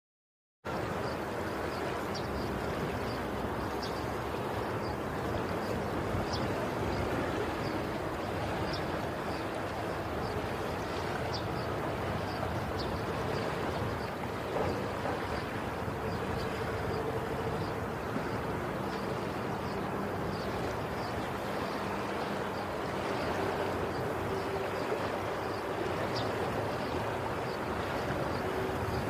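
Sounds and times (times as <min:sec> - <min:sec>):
rushing water with bubbles: 0:00.7 - 0:29.0.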